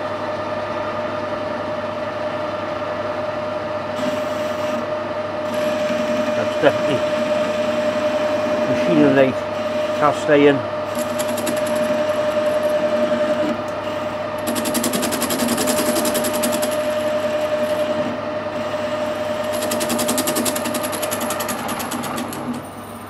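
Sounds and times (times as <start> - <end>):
lathe drive whine: 0.0 - 23.0
lathe cutting metal: 3.9 - 23.0.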